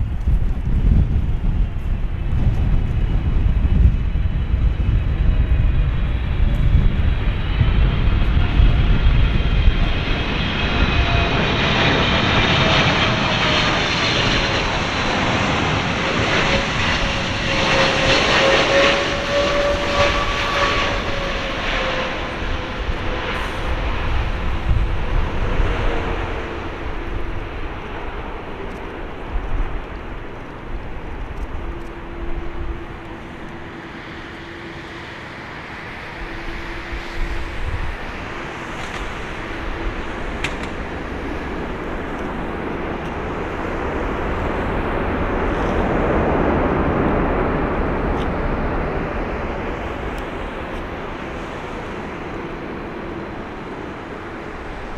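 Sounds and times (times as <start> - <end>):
jet engine whine: 0.0 - 54.9.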